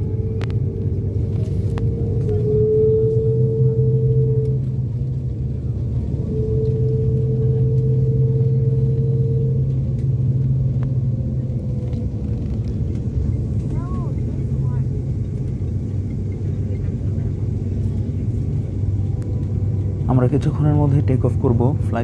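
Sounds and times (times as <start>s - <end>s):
higher steady hum: 0.0s - 22.0s
jet engines rumbling: 0.0s - 22.0s.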